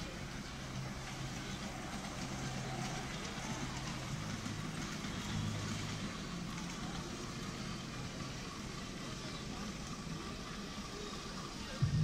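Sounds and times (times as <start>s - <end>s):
distant steam locomotive running: 0.0s - 12.0s
low hum: 0.1s - 12.0s.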